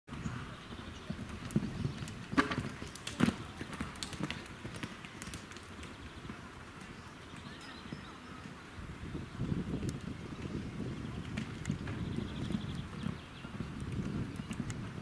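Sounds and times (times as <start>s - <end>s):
horse hoofbeats on sand: 0.1s - 8.6s, 9.6s - 15.0s.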